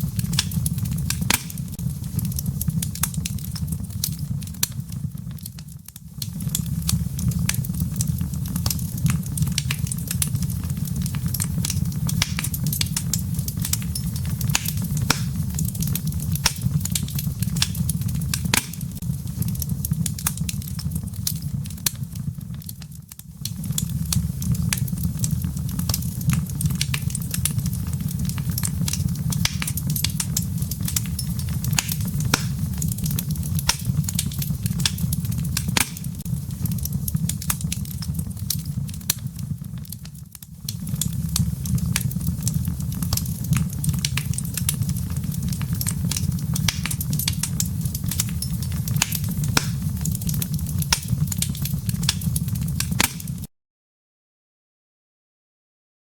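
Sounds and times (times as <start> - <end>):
fire pops and snaps: 0.0 - 53.5
low rumble of flames: 0.0 - 53.5.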